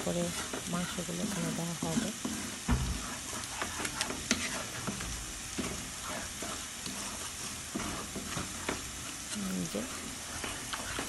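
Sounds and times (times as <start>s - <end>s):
masala sizzling in pan: 0.0s - 11.0s
wooden spatula scraping pan: 0.0s - 11.0s.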